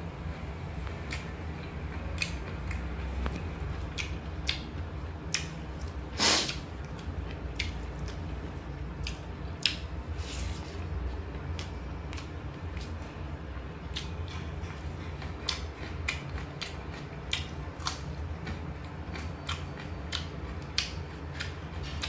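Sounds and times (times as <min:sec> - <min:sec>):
steady low hum: 0:00.0 - 0:22.0
person chewing: 0:01.1 - 0:08.4, 0:09.0 - 0:13.1, 0:13.8 - 0:22.0.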